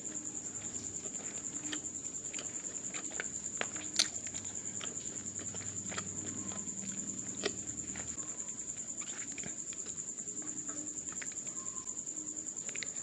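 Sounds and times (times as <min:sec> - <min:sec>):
cricket trilling: 0:00.0 - 0:13.0
wet eating clicks and smacks: 0:00.1 - 0:11.6, 0:12.6 - 0:13.0.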